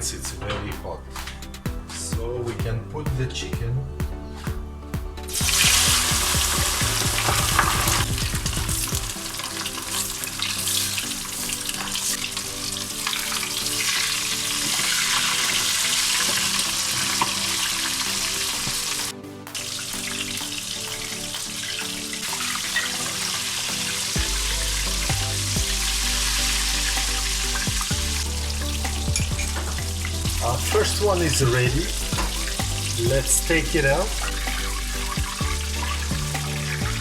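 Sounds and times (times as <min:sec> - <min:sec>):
background music: 0:00.0 - 0:37.0
chicken sizzling in hot oil: 0:05.3 - 0:37.0.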